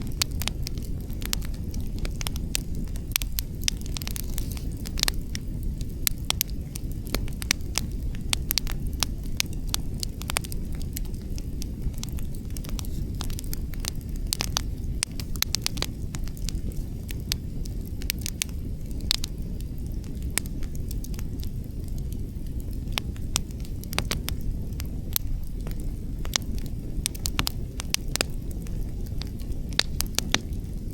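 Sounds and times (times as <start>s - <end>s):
burning logs crackling and popping: 0.0s - 30.9s
low rumble of flames: 0.0s - 30.9s
wind: 0.0s - 30.9s.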